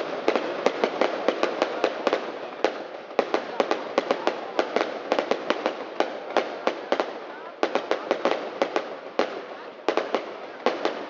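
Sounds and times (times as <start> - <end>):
fireworks bursting with sharp bangs: 0.0 - 11.0.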